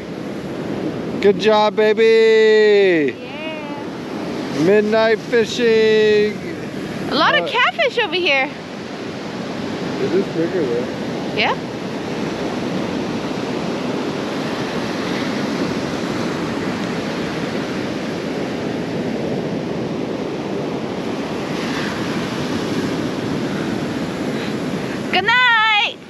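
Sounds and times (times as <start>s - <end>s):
surf breaking on shore: 0.0s - 26.0s.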